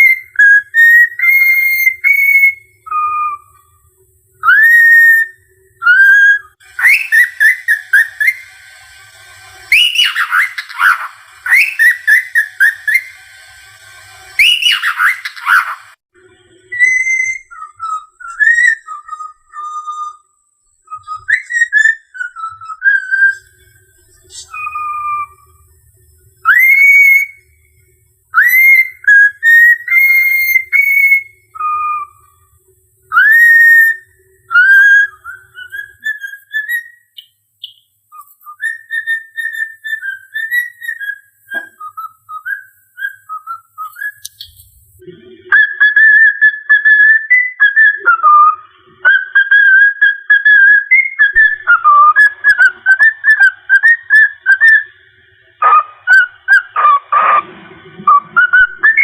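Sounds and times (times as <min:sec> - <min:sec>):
cockatiel whistling a tune: 0:00.0 - 0:03.7, 0:04.4 - 0:16.0, 0:16.7 - 0:25.6, 0:26.4 - 0:32.4, 0:33.1 - 0:44.6, 0:45.5 - 0:55.0, 0:55.6 - 0:57.4, 0:58.0 - 0:59.0.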